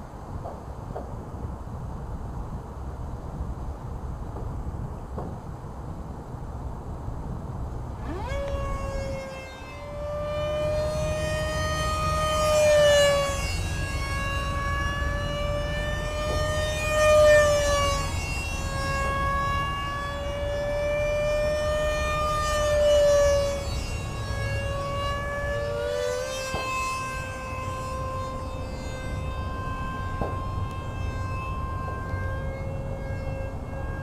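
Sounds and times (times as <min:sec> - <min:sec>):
model jet electric fan whining: 0:00.0 - 0:34.0.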